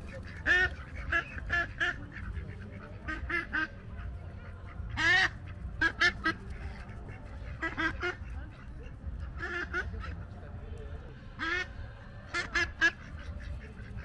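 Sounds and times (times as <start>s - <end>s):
ducks quacking: 0.0s - 14.0s.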